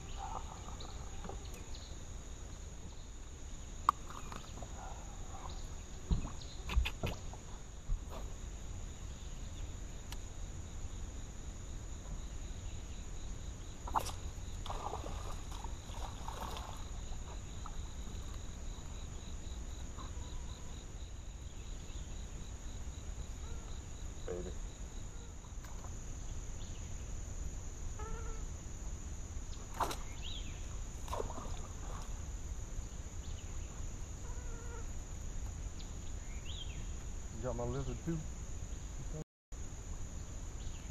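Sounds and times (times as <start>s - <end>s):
insect pulsing trill: 0.0s - 40.9s
insects droning: 0.0s - 40.9s.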